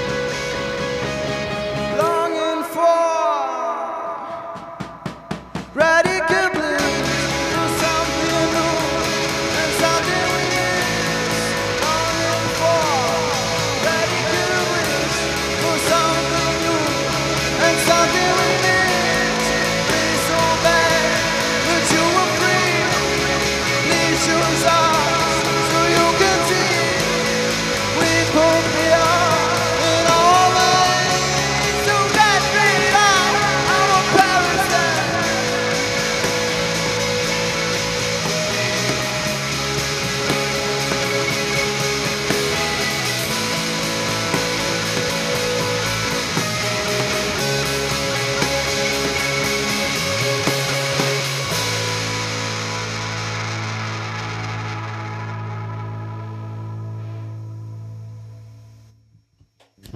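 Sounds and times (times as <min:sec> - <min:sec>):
rock band playing: 0:00.0 - 0:57.5
electric guitar: 0:00.0 - 0:58.9
person singing: 0:01.8 - 0:52.4
drum fill: 0:04.2 - 0:53.9.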